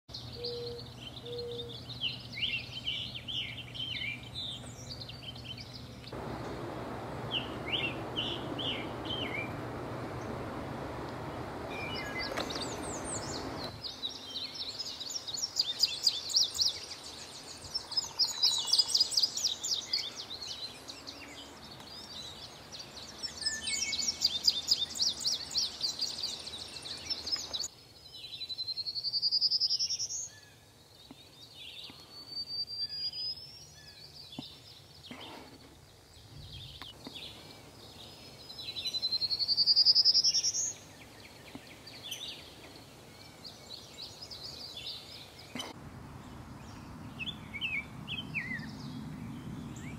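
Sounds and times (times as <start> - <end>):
songbirds singing: 0.1 - 49.9
steady background hiss: 0.2 - 49.9.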